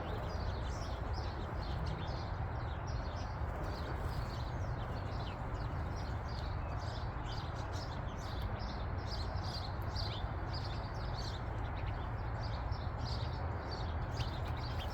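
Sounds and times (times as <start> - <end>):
small songbirds chirping: 0.0 - 14.9.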